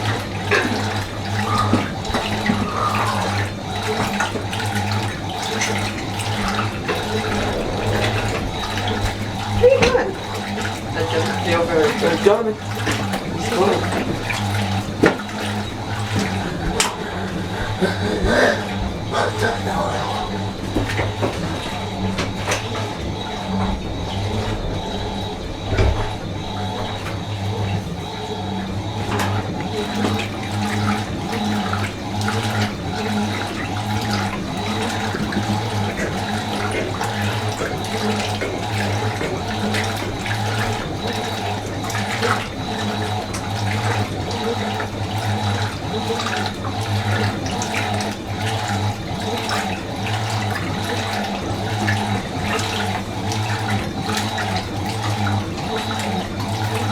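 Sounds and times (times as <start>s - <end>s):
washing machine low hum: 0.0s - 56.9s
water running into washing machine: 0.0s - 56.9s.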